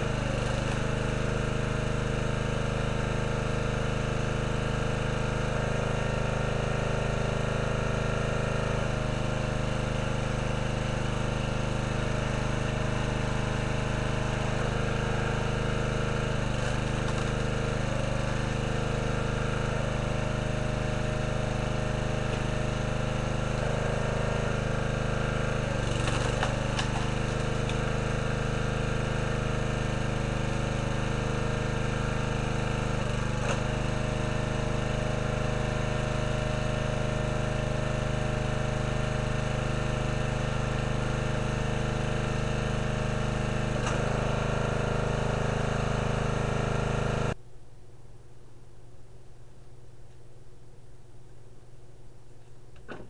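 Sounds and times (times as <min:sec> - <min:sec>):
log splitter engine running: 0:00.0 - 0:47.4.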